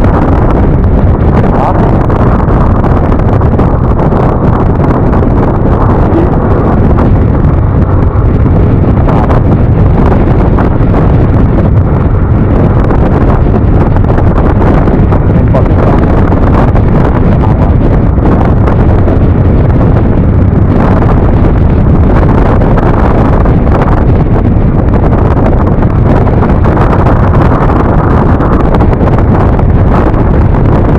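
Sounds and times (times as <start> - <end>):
low rumble: 0.0 - 30.9
wind buffeting microphone: 0.0 - 30.9.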